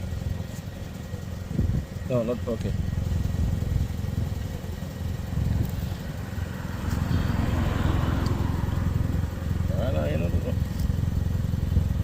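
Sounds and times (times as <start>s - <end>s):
engine running with pulsing rumble: 0.0s - 12.0s.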